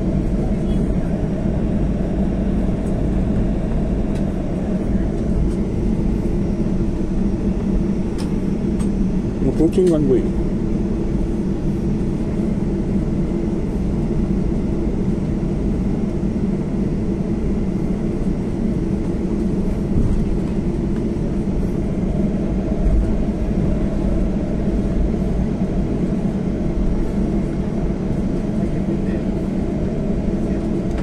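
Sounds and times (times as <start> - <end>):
jet engines rumbling in cabin: 0.0 - 31.0.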